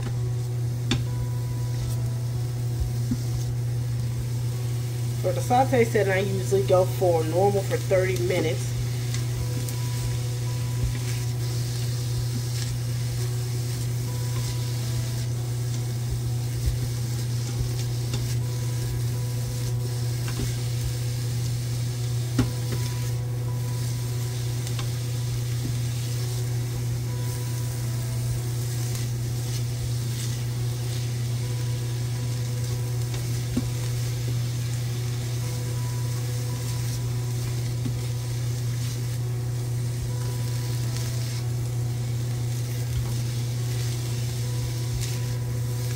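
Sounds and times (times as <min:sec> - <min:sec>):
onions sizzling in oil: 0:00.0 - 0:45.9
steady low hum: 0:00.0 - 0:45.9.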